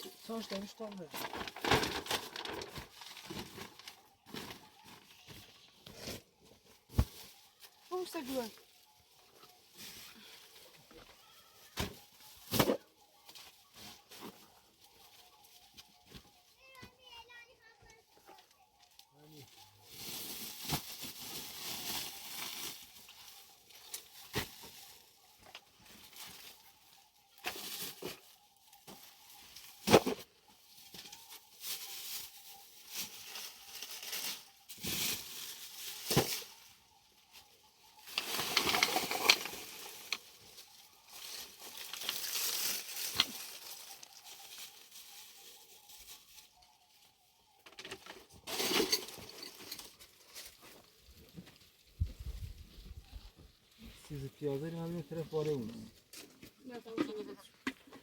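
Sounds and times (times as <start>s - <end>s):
rustling and crinkling: 0.0s - 58.0s.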